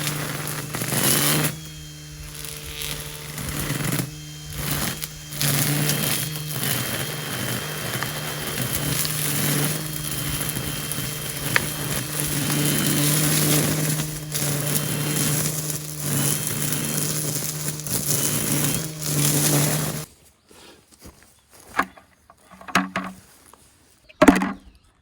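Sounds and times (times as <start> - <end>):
small petrol engine running: 0.0 - 20.1.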